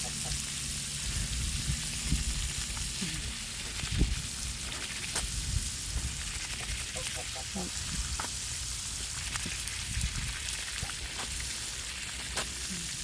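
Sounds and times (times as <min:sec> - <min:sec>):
water running from garden hose: 0:00.0 - 0:13.0.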